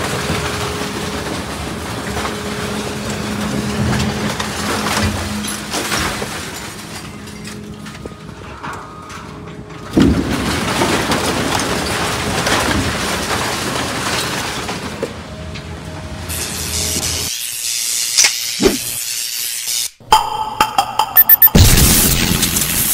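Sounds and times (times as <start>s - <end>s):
metal crashing and breaking: 0.0s - 17.3s, 21.6s - 22.9s.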